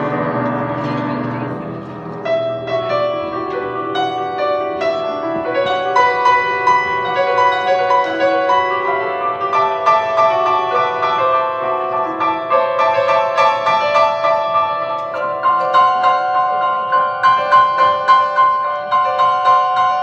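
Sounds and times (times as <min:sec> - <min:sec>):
grand piano playing: 0:00.0 - 0:20.0.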